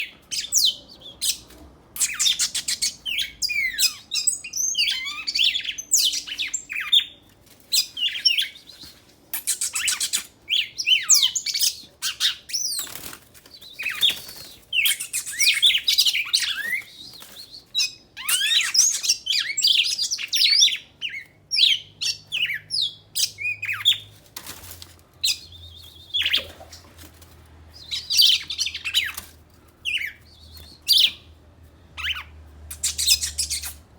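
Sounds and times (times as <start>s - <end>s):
songbirds singing: 0.0s - 24.2s, 25.1s - 27.0s, 27.6s - 33.9s.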